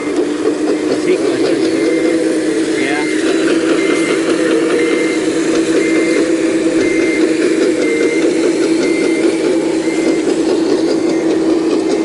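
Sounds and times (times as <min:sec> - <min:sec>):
diesel engine running: 0:00.0 - 0:12.0
high-pitched alarm beeping: 0:00.0 - 0:12.0.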